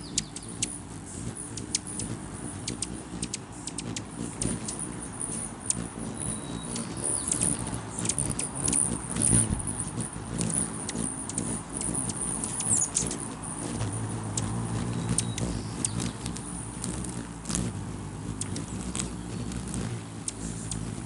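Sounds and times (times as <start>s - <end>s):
high-pitched bird chips and squeaks: 0.0s - 17.1s, 18.3s - 21.0s
hummingbird wings humming: 0.0s - 21.0s.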